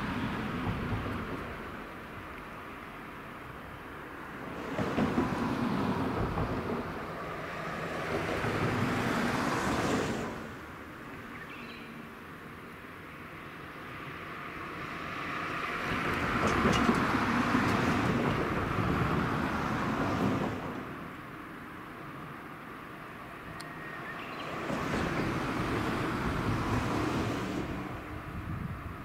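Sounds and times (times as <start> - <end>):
vehicles passing on road: 0.0 - 29.0.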